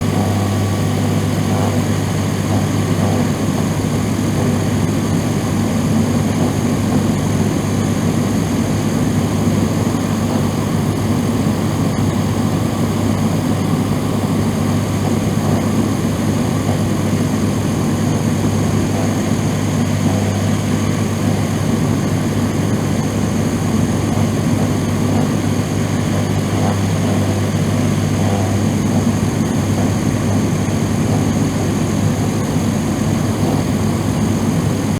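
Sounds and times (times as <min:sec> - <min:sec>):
exhaust fan motor hum: 0:00.0 - 0:34.9.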